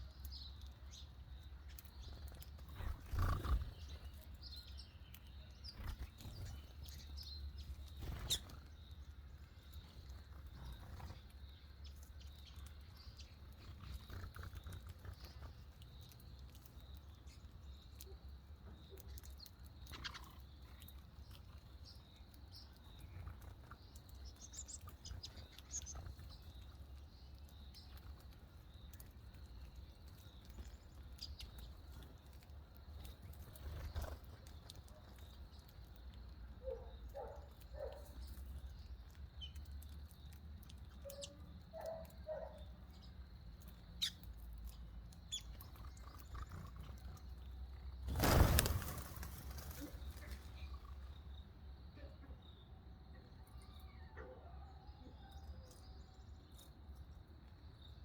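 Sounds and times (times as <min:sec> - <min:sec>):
birds chirping faintly: 0:00.0 - 0:58.0.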